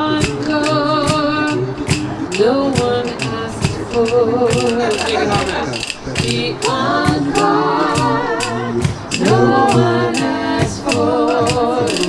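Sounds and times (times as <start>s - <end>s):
group singing a cappella: 0.0s - 12.0s
sharp percussive beat: 0.0s - 12.0s.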